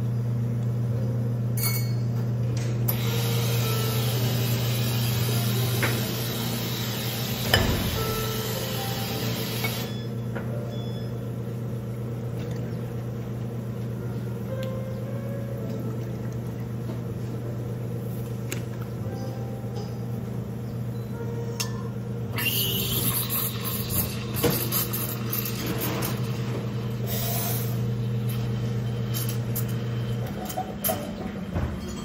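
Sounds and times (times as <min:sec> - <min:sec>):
low hum of cafe equipment: 0:00.0 - 0:32.0.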